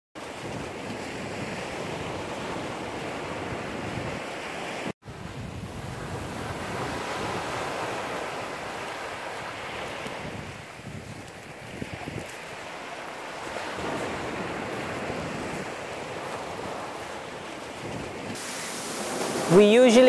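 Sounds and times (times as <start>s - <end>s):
sea surf breaking on beach: 0.2s - 20.0s.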